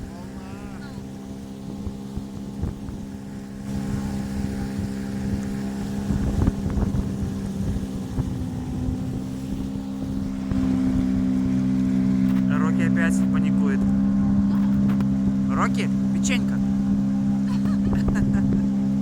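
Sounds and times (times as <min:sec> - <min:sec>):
wind on microphone: 0:00.0 - 0:12.6, 0:13.8 - 0:19.0
motorboat engine running: 0:00.0 - 0:19.0
water noise: 0:00.0 - 0:19.0.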